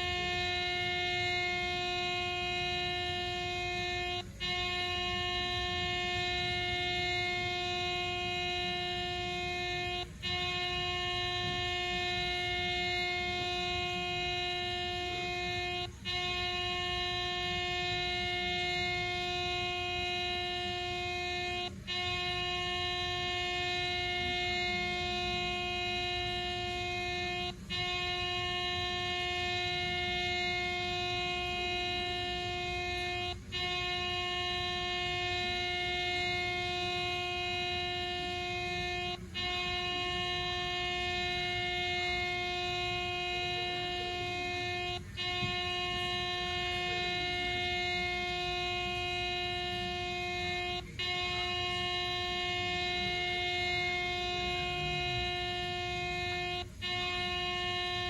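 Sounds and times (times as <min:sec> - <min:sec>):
air horn steady tone: 0:00.0 - 0:58.0.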